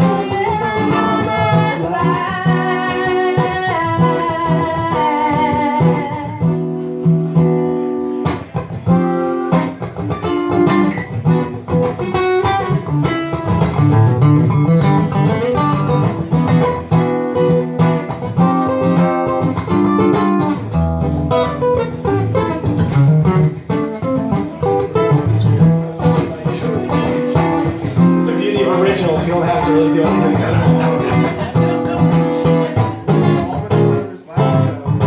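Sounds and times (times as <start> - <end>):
acoustic guitar strumming and plucking: 0.0 - 35.0.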